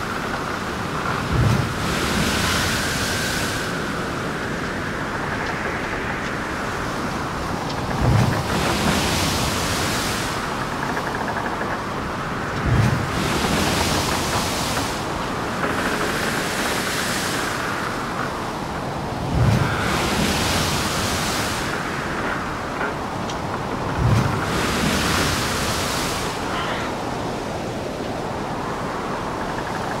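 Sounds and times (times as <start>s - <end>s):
waves crashing: 0.0s - 30.0s
wind: 0.0s - 30.0s.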